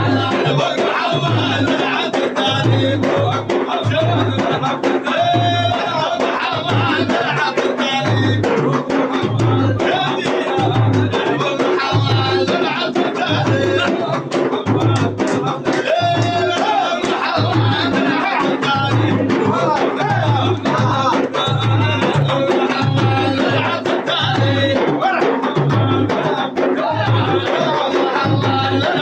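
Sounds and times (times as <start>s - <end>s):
group singing: 0.0s - 29.0s
hand drums beating: 0.0s - 29.0s.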